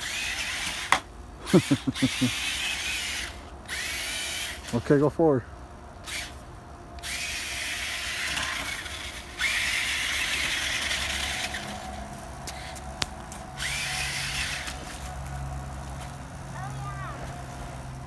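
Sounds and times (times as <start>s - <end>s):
toy truck electric motor whirring: 0.0s - 5.0s, 6.0s - 18.0s.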